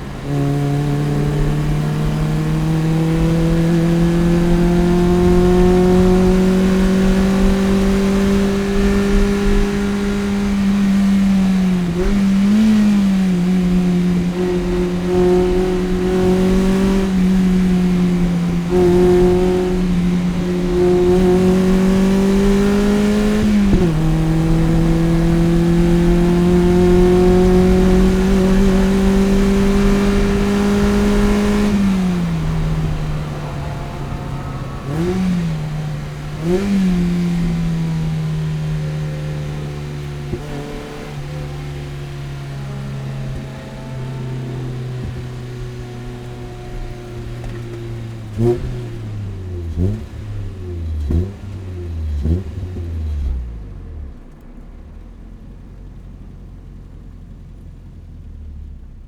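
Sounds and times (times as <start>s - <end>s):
car engine at full throttle: 0.0s - 59.0s.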